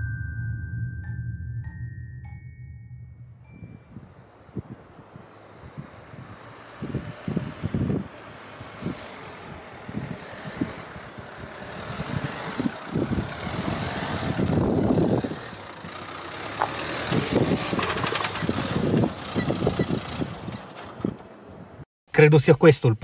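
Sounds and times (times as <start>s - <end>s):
car approaching on road: 3.2s - 21.8s.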